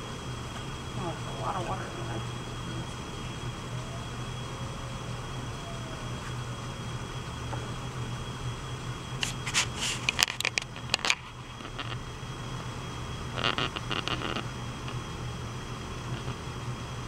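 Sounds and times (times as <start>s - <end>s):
potter's wheel humming: 0.0s - 17.0s.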